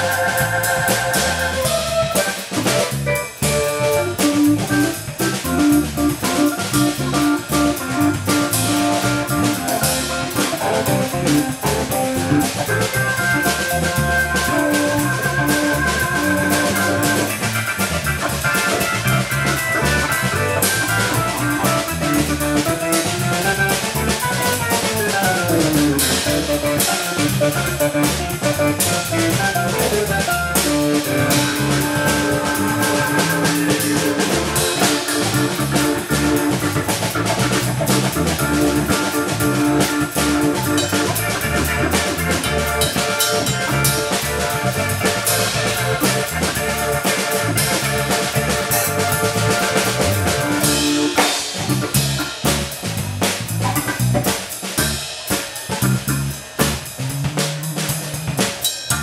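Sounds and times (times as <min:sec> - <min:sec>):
drum kit with cymbals: 0:00.0 - 0:59.0
electric bass line: 0:00.0 - 0:59.0
electric organ playing: 0:00.0 - 0:59.0
keyboard chords: 0:00.0 - 0:59.0.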